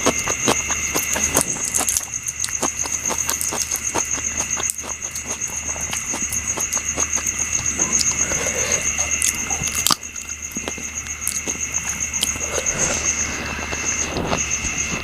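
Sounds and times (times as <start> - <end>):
person chewing: 0.0 - 14.5.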